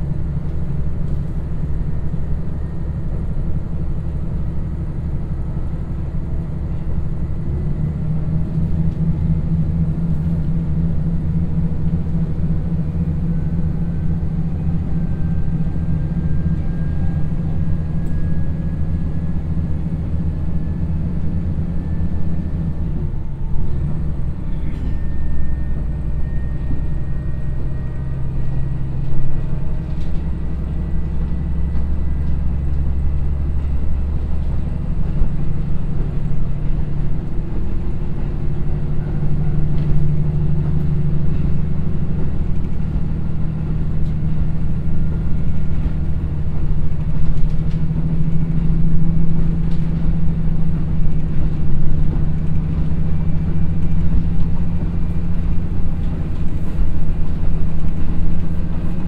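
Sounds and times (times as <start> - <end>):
diesel railcar engines working: 0.0 - 59.0
wheel and rail rumble: 0.0 - 59.0.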